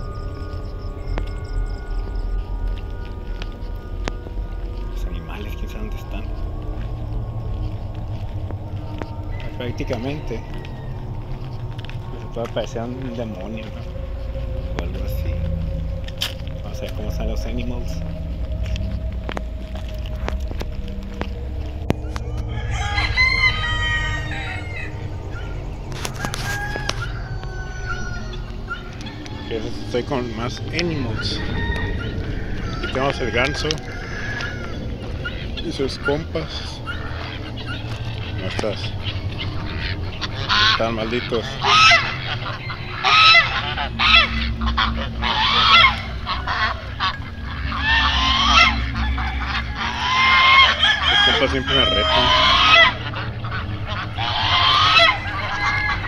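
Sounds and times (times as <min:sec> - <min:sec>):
geese honking: 0:00.0 - 0:56.0
rooster crowing: 0:00.0 - 0:56.0.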